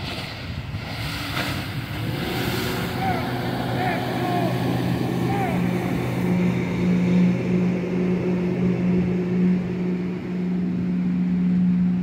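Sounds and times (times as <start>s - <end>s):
motorboat engine running: 0.0s - 12.0s
rushing rough water: 0.0s - 12.0s.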